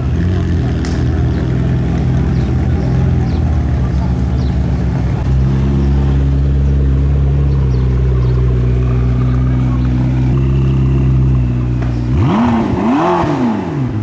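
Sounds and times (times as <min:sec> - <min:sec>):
sports car engine at low revs: 0:00.0 - 0:14.0.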